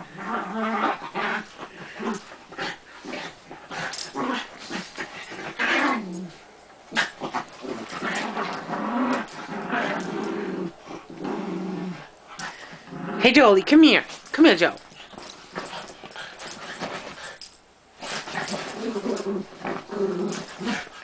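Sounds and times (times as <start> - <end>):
small dogs growling: 0.0 - 13.3, 14.1 - 21.0.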